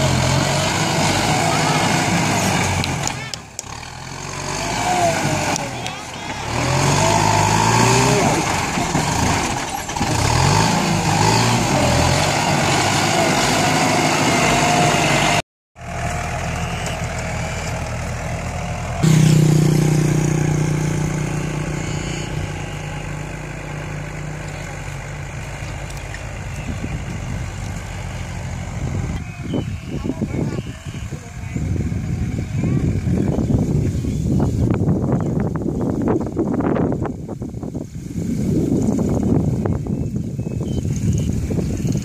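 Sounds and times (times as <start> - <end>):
second tractor engine running: 0.0 - 37.4
tractor diesel engine under load: 0.0 - 42.0.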